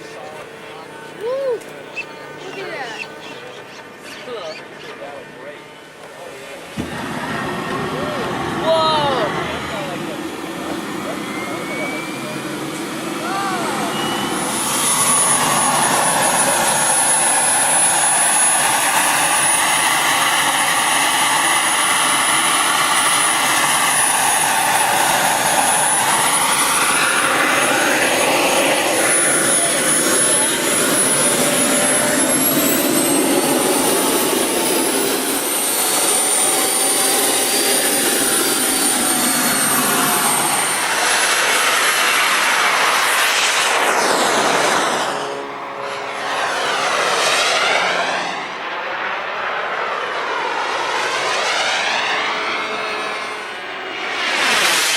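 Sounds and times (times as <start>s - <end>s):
model jet high whine: 0.0s - 54.9s.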